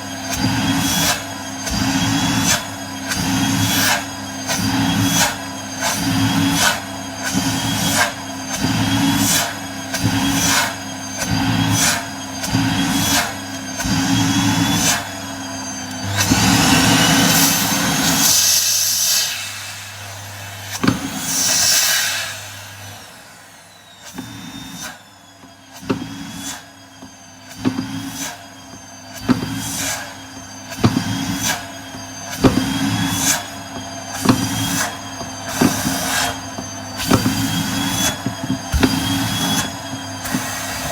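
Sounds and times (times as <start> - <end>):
vacuum cleaner suction: 0.0 - 40.9.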